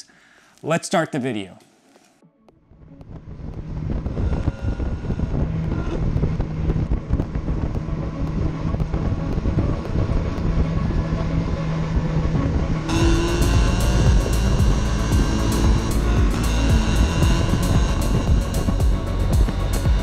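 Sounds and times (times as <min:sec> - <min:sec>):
road and wind rumble: 0:02.6 - 0:20.0
race car engine running: 0:03.1 - 0:20.0.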